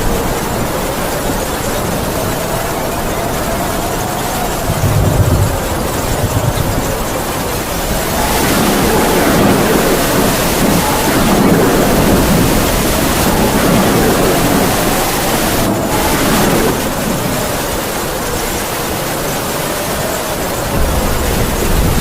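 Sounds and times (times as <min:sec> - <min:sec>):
heavy rain downpour: 0:00.0 - 0:22.0
wind howling: 0:00.0 - 0:22.0.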